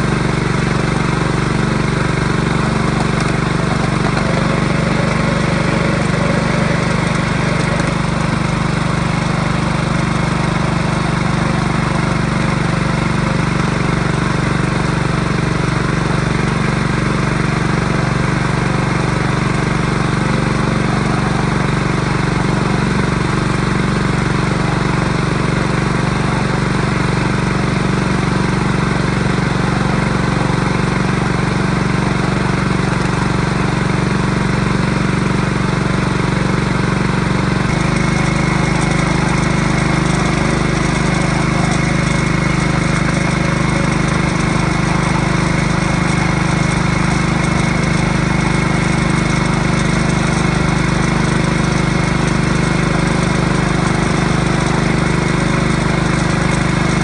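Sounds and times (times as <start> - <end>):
small engine humming: 0.0 - 57.0.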